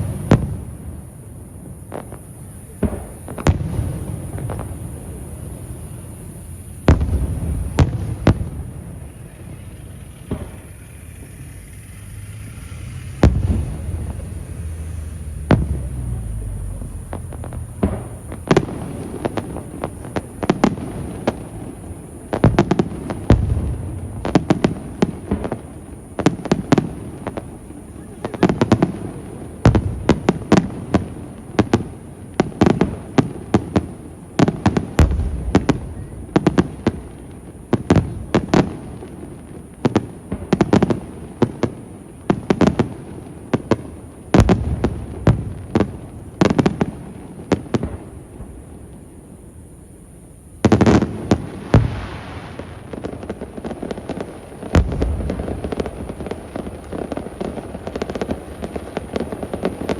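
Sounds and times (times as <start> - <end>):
fireworks shells bursting: 0.0 - 49.1
fireworks popping: 0.0 - 59.9.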